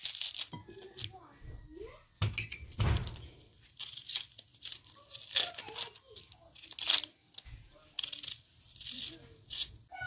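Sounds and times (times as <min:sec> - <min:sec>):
knife scraping onion skin: 0:00.0 - 0:01.1, 0:03.0 - 0:09.9.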